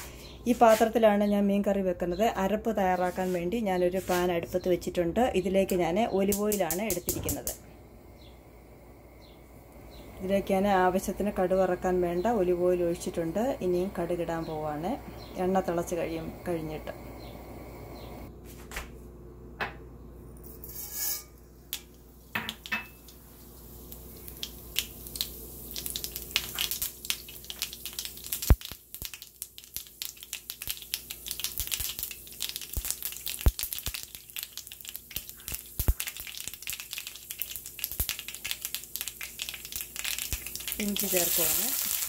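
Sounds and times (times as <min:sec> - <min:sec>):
seeds crackling in hot oil: 0:02.8 - 0:08.3, 0:08.9 - 0:17.4, 0:20.7 - 0:42.0.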